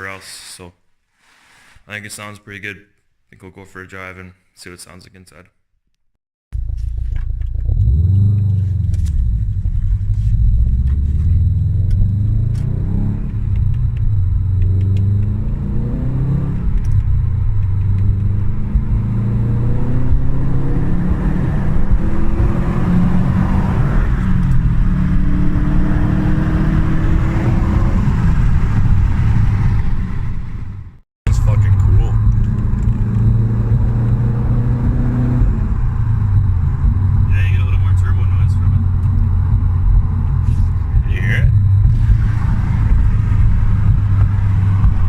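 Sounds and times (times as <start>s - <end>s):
car engine rumbling: 6.5s - 45.0s.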